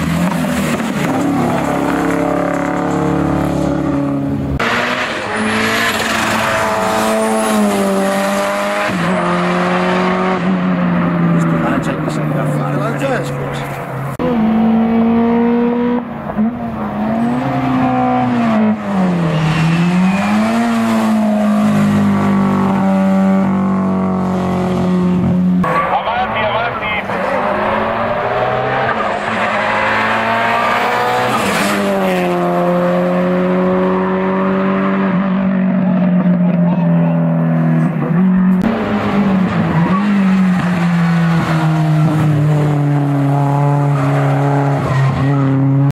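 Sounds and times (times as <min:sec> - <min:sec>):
racing car engine passing: 0:00.0 - 0:45.9.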